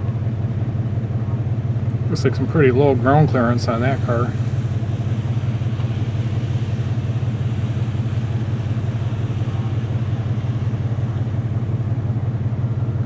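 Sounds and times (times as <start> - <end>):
car engine droning inside car: 0.0 - 13.0.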